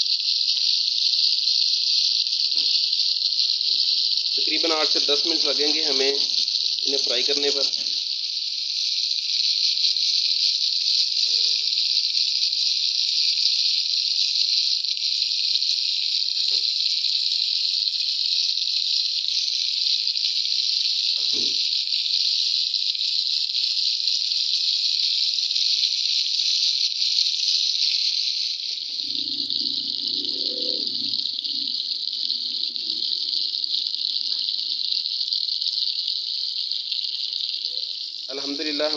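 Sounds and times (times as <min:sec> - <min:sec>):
meat sizzling in oil: 0:00.0 - 0:38.9.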